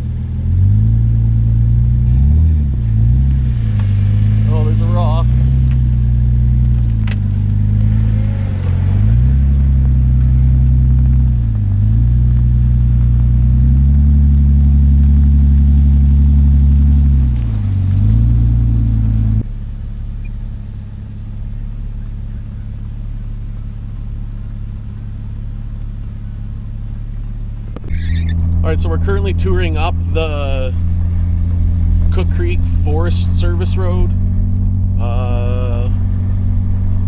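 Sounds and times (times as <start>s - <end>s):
low engine rumble: 0.0s - 37.0s
vehicle engine running: 0.0s - 37.0s.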